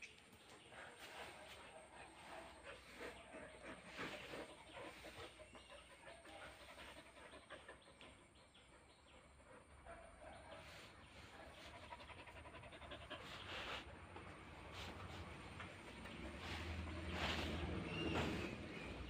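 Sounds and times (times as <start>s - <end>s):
soft dog noises: 0.0s - 19.0s.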